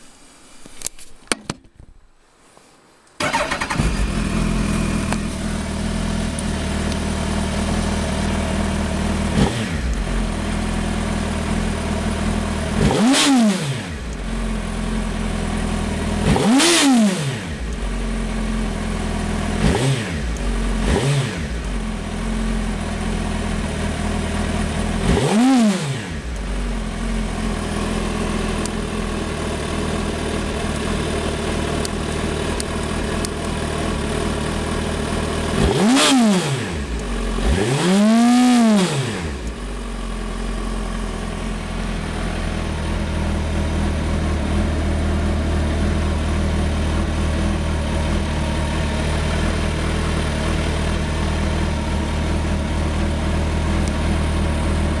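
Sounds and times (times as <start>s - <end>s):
motorcycle engine idling and revving: 3.2s - 55.0s.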